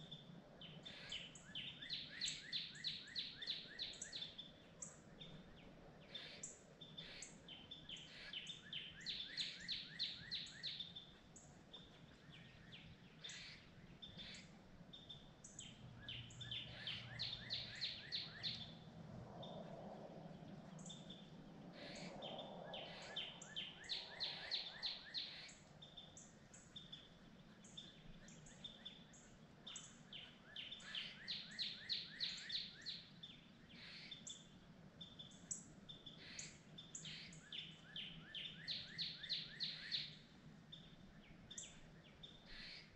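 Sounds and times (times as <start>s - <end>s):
quiet woodland background: 0.0s - 42.9s.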